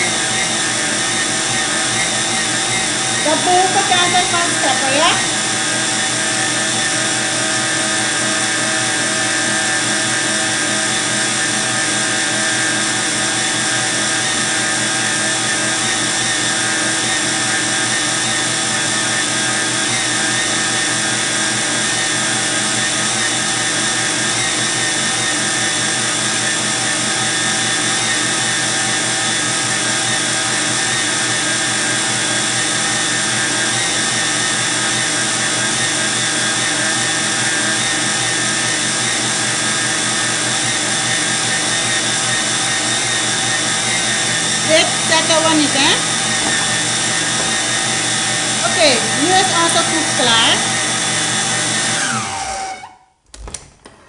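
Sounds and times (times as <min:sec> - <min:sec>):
stand mixer motor whining: 0:00.0 - 0:53.1.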